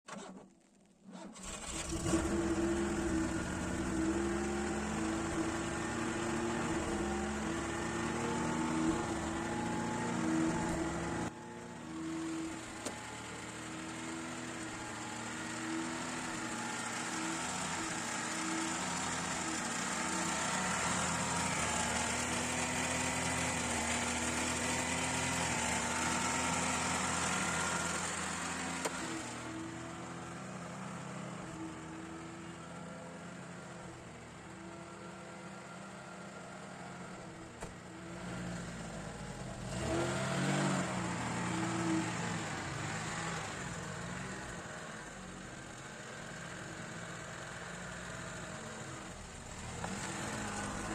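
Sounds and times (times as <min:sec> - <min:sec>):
car engine running: 0:00.2 - 0:50.9.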